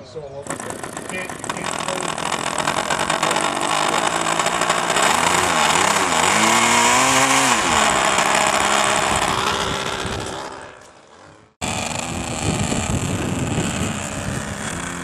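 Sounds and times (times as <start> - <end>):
model airplane engine revving: 0.4 - 15.0.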